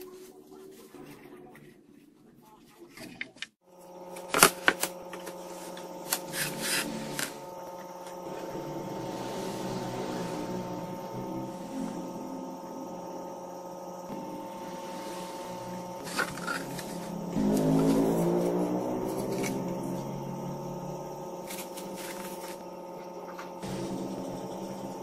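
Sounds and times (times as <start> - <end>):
ambient drone music: 3.8 - 25.0.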